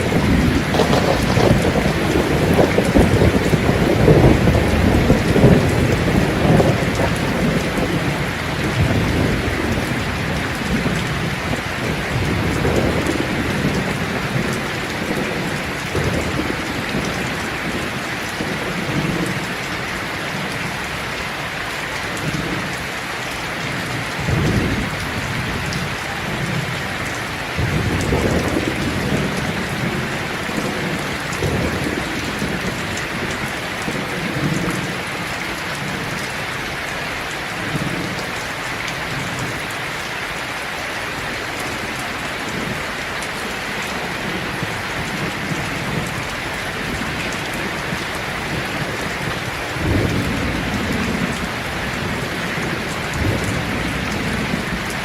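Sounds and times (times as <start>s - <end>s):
rolling thunder rumbles: 0.0s - 19.7s, 23.6s - 36.7s, 41.8s - 55.0s
heavy rain hissing: 0.0s - 55.0s.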